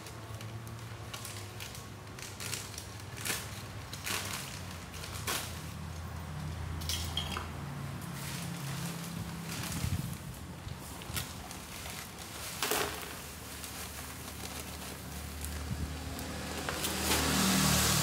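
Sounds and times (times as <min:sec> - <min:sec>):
plastic sack crinkling: 0:00.0 - 0:06.2, 0:08.0 - 0:18.0.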